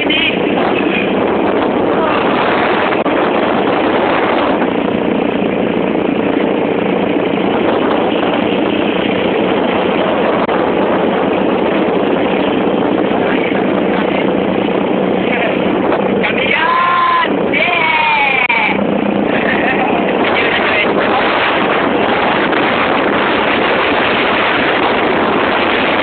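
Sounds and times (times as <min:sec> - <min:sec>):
wind rushing on microphone: 0:00.0 - 0:26.0.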